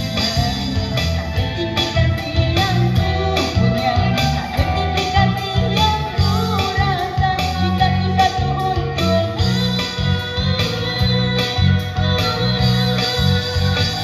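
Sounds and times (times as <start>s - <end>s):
live band playing pop: 0.0s - 14.0s
woman singing: 0.0s - 14.0s.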